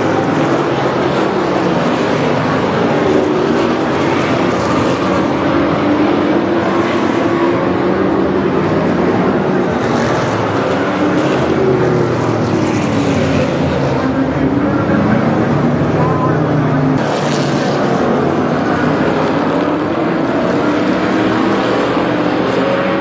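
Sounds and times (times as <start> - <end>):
stock cars racing: 0.0 - 23.0.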